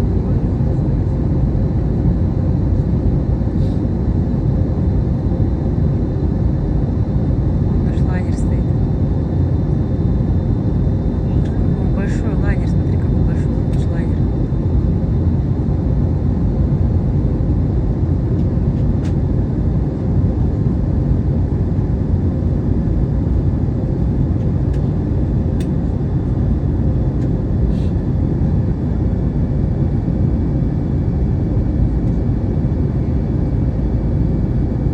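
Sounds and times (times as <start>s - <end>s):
airliner cabin noise: 1.5s - 34.9s.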